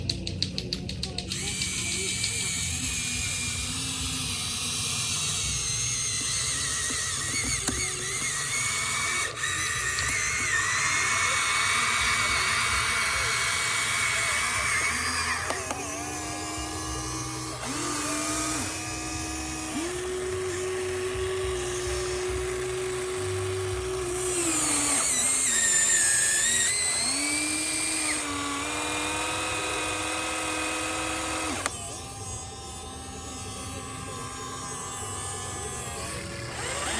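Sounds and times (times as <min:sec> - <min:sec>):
small electric motors whining: 0:00.0 - 0:36.9.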